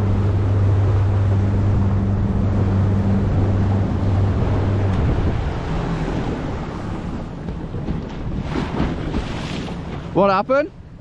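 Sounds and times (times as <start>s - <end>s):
outboard motor running: 0.0s - 11.0s
water noise: 0.0s - 11.0s
wind: 0.0s - 11.0s.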